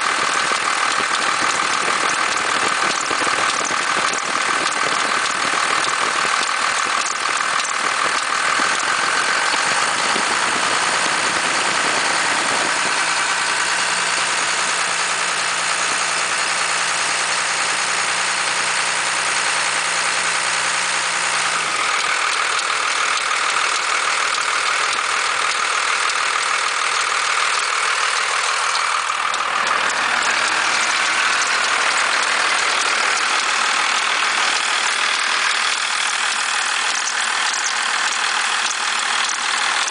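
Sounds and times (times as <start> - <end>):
diesel engine idling: 0.0 - 39.9
unusual engine noise: 0.0 - 39.9.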